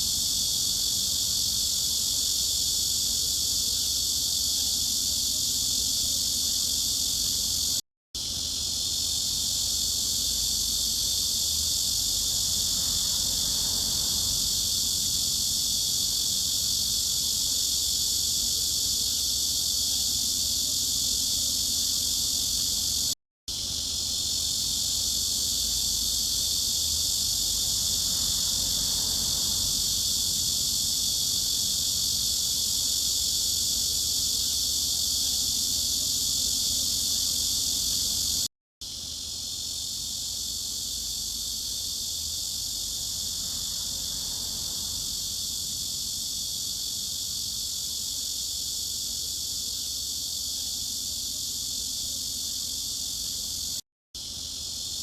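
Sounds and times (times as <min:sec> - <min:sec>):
cicada chorus: 0:00.0 - 0:55.0.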